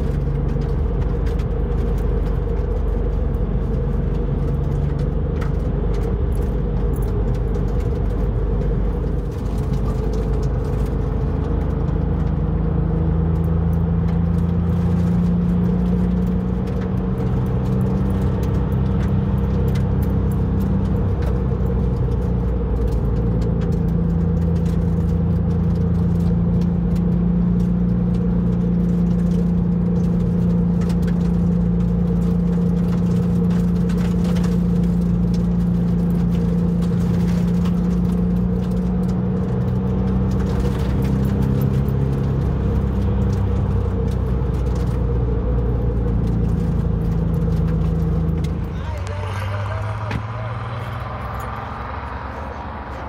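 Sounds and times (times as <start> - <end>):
car engine running: 0.0 - 53.0
road noise: 0.0 - 53.0.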